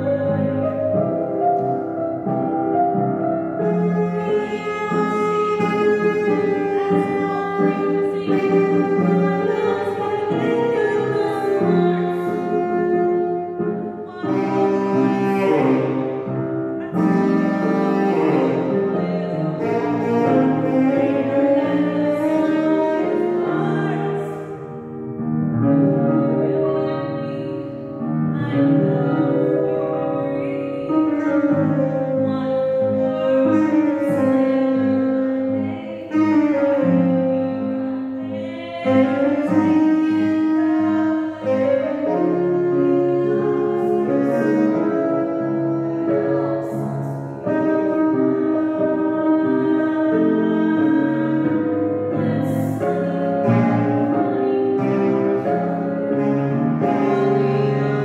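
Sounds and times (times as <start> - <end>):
piano accompaniment: 0.0 - 58.0
saxophone playing slow melody: 0.0 - 58.0.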